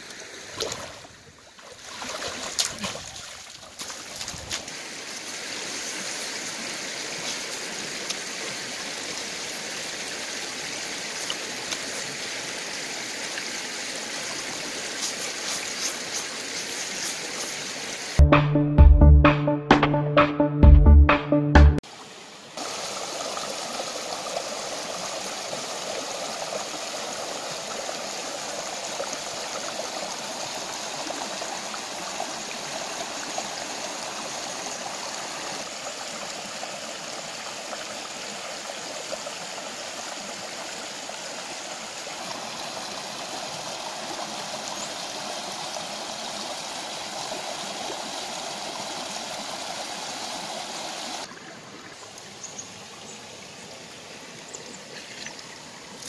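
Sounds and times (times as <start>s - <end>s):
stream rushing over rocks: 0.0s - 18.2s, 21.8s - 56.0s.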